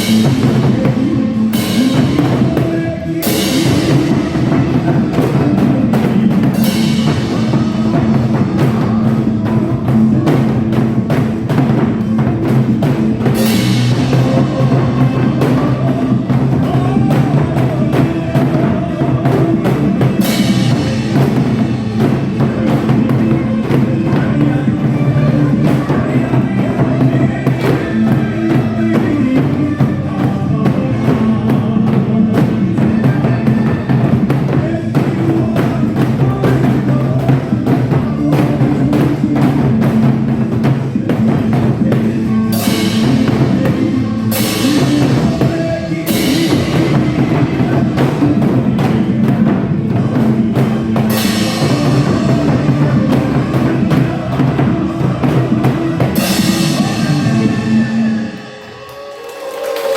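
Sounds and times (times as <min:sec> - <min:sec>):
hourglass drum fast rhythm: 0:00.0 - 0:58.8
backing track bass and drum beat: 0:00.0 - 0:59.7.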